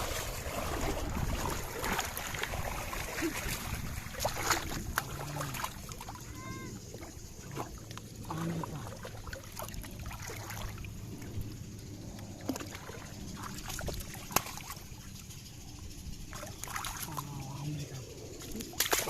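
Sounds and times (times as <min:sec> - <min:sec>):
water sloshing and trickling: 0:00.0 - 0:19.0.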